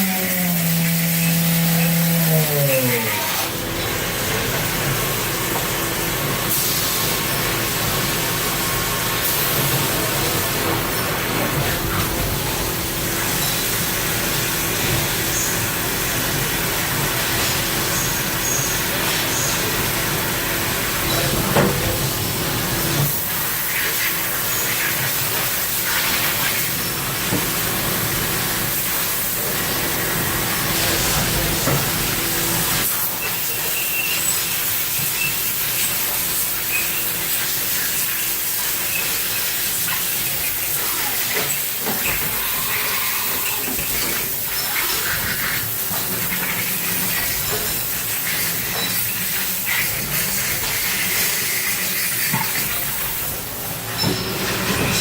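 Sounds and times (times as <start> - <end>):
milling machine humming: 0.0 - 55.0
hiss: 4.6 - 55.0.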